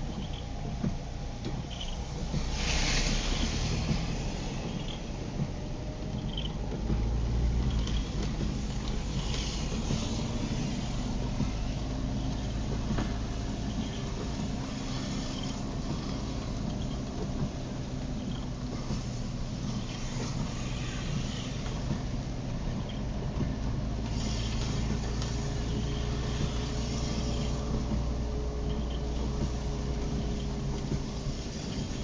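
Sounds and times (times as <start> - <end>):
car engine hum: 0.0 - 32.0
rain rushing on car: 0.0 - 32.0
tyre and road noise: 0.0 - 32.0.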